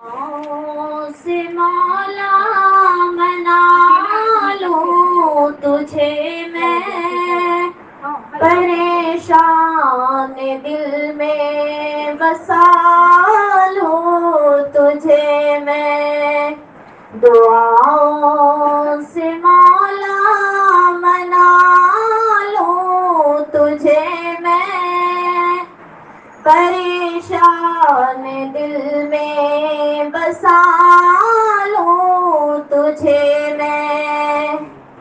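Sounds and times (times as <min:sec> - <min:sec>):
woman singing devotional song: 0:00.0 - 0:25.8, 0:26.4 - 0:34.7.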